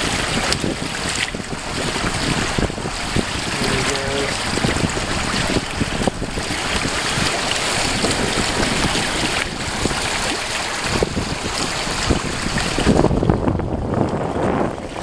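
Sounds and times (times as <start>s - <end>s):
water washing along boat hulls: 0.0s - 15.0s
wind rushing over microphone: 0.0s - 15.0s.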